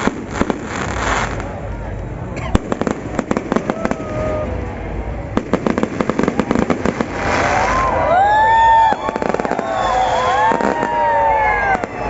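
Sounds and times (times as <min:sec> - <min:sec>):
fireworks whistling: 0:00.0 - 0:01.7, 0:02.4 - 0:12.0
fireworks crackling pops: 0:00.0 - 0:04.4, 0:05.3 - 0:12.0.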